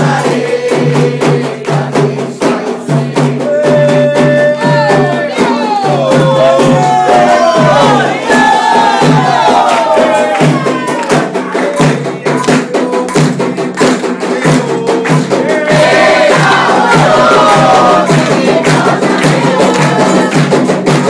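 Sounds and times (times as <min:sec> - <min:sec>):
fast hand percussion: 0:00.0 - 0:21.0
voices singing a chant: 0:00.0 - 0:21.0.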